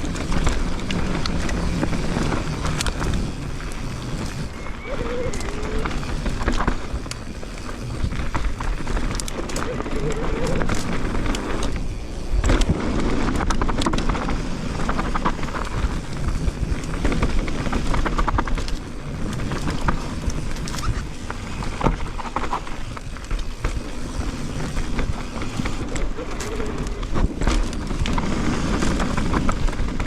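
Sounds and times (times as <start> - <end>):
bike clattering and rattling: 0.0 - 30.0
tyres rumbling over stones: 0.0 - 30.0.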